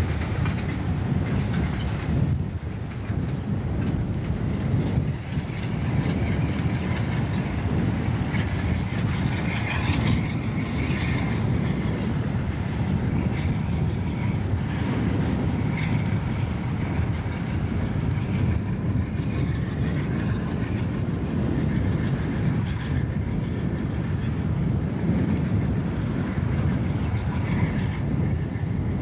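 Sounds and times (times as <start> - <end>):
diesel locomotive engine rumble: 0.0 - 29.0
train wheels rolling on rails: 0.0 - 29.0.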